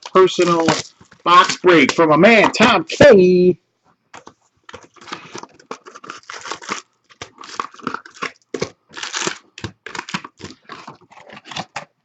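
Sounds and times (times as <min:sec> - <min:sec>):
wrapping tearing and crinkling: 0:00.0 - 0:02.6, 0:04.2 - 0:12.0.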